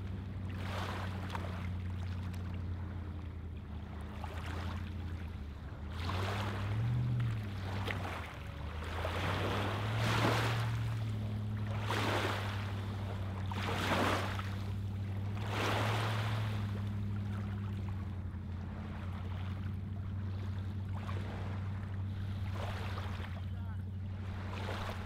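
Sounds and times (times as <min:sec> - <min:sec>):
steady low hum: 0:00.0 - 0:25.0
lake waves lapping on pebbles: 0:00.3 - 0:03.1, 0:03.7 - 0:25.0.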